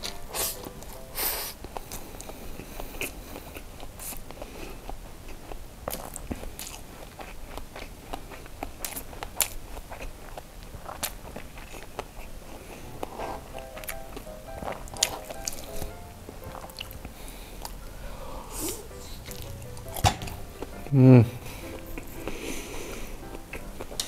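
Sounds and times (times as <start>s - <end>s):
person chewing rice: 0.0s - 24.0s.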